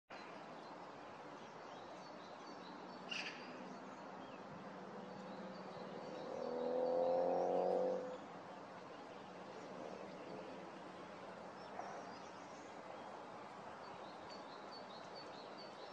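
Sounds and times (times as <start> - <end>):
faint distant birdsong: 0.1 - 15.9.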